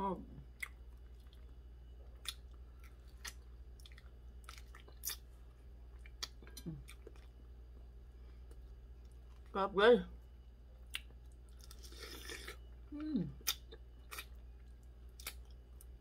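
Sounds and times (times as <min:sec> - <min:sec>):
quiet chewing: 0:00.5 - 0:09.5, 0:10.8 - 0:16.0.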